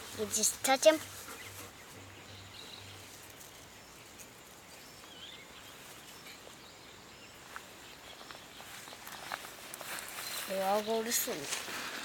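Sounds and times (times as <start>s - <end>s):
faint bird chirp: 0.4s - 11.4s.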